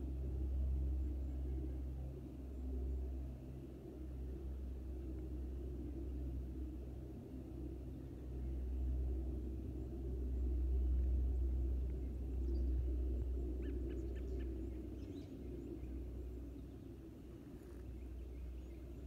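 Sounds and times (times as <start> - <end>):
distant turboprop engines droning: 0.0 - 19.0.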